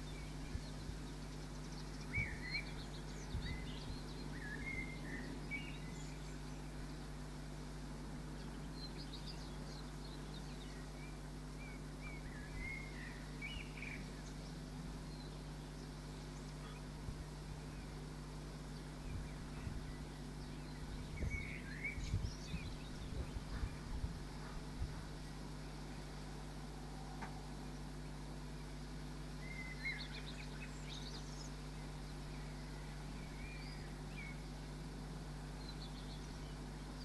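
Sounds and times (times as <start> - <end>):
songbirds chirping and singing: 0.0 - 37.0
steady low hum: 0.0 - 37.0.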